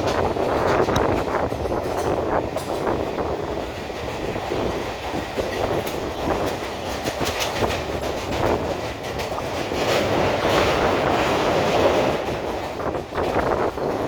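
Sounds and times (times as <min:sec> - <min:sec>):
train wheels rumbling on rails: 0:00.0 - 0:14.0
wheels clattering over rail joints: 0:00.0 - 0:14.0.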